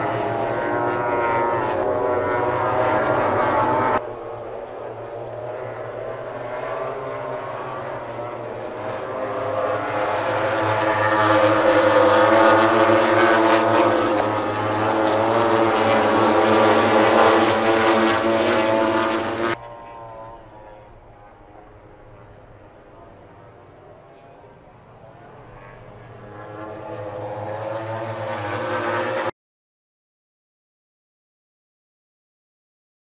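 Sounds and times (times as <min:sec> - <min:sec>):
racing motorcycle engines: 0:00.0 - 0:29.3.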